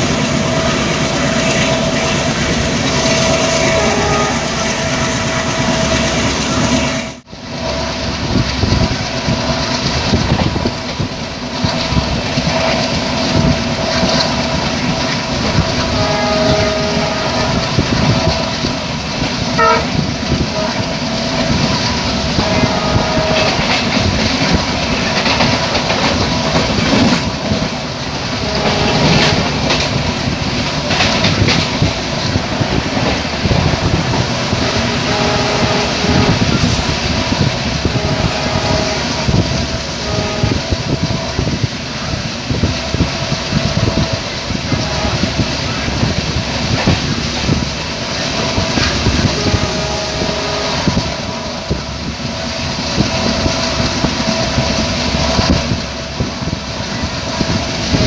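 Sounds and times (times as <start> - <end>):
locomotive horn: 0.0 - 7.3, 10.3 - 41.6, 43.6 - 55.8, 57.4 - 58.0
rushing wind: 0.0 - 58.0
train wheels clattering on rail: 0.0 - 58.0.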